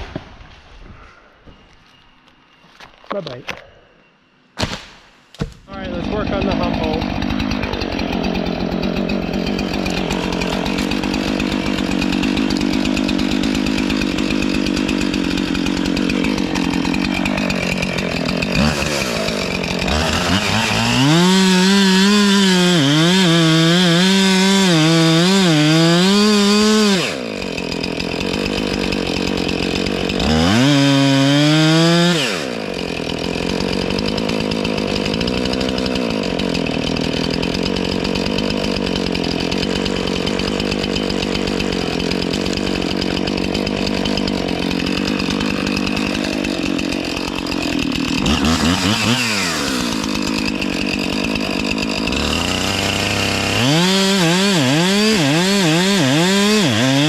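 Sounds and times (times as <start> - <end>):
chainsaw cutting at full throttle: 5.6 - 57.0
chainsaw idling: 5.6 - 57.0.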